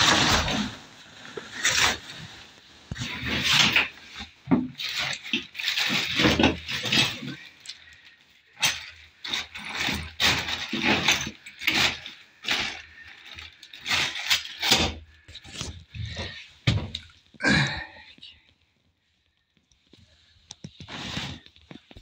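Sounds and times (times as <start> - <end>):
rustling and knocking of handling: 0.0 - 7.6, 8.6 - 17.4, 19.6 - 22.0.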